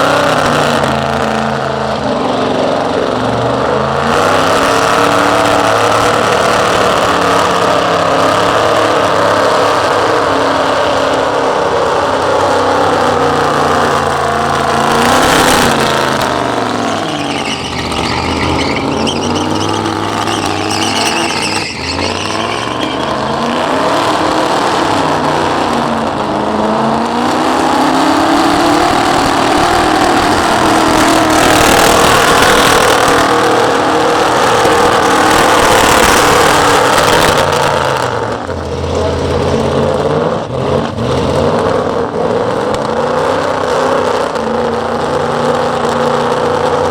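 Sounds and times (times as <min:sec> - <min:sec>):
spinning tyres hissing: 0:00.0 - 0:43.0
engine revving at high revs: 0:00.0 - 0:46.9.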